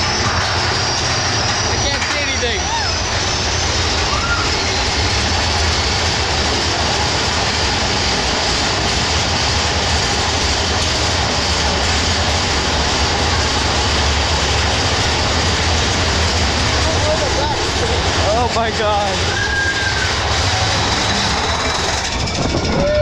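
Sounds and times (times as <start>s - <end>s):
ride vehicle rumbling on track: 0.0s - 23.0s.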